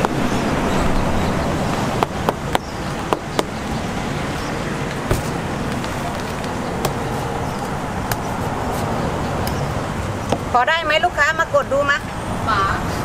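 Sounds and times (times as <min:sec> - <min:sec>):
street market din: 0:00.0 - 0:13.0.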